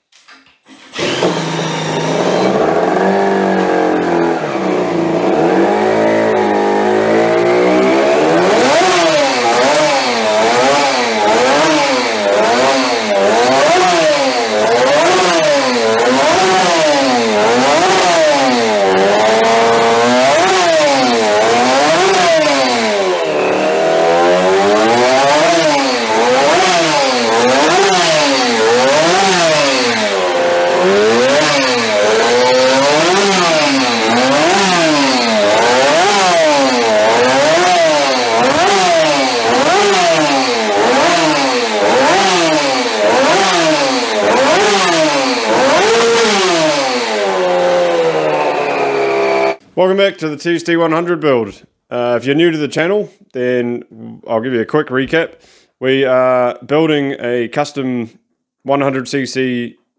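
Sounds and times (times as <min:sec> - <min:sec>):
two-stroke engine revving: 0:00.7 - 0:49.6.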